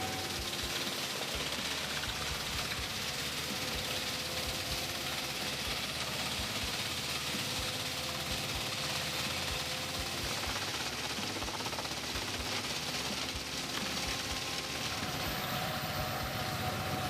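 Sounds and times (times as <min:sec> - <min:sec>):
constant high hiss: 0:00.0 - 0:17.0
heavy machine engine running: 0:00.0 - 0:17.0
steady hum: 0:00.0 - 0:17.0.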